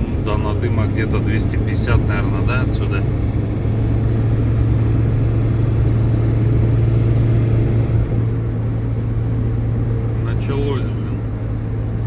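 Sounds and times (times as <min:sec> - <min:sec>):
road noise: 0:00.0 - 0:12.0
vehicle engine droning: 0:00.0 - 0:12.0.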